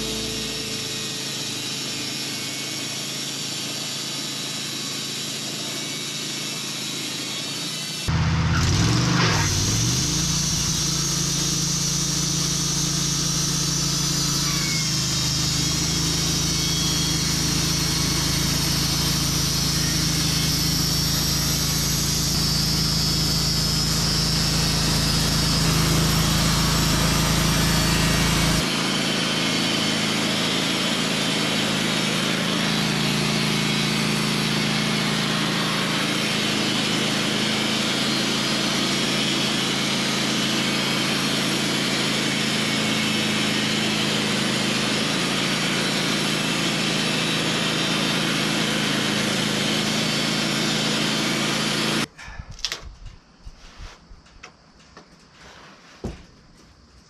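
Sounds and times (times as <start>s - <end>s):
sawmill sawing boards: 0.0s - 52.1s.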